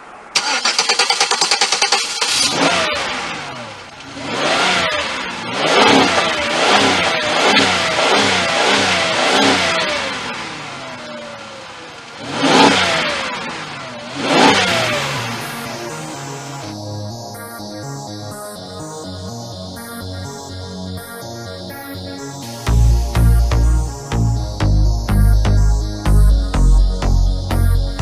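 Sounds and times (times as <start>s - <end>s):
car engine revving: 0.3s - 28.0s.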